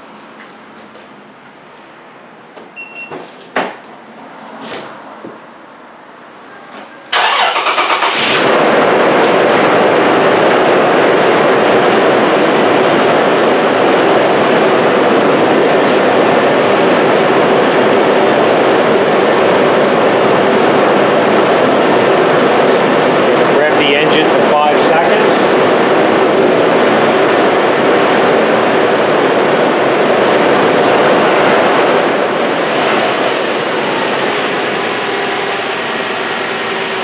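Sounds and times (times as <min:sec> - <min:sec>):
car engine starting and idling: 0:07.1 - 0:37.0.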